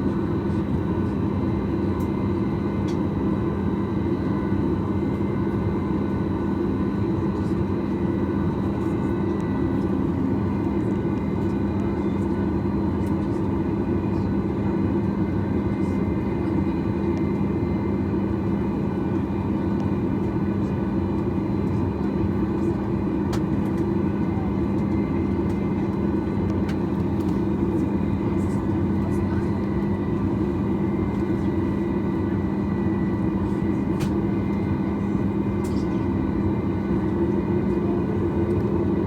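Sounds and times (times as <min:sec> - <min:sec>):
aircraft cabin hum: 0:00.1 - 0:39.0.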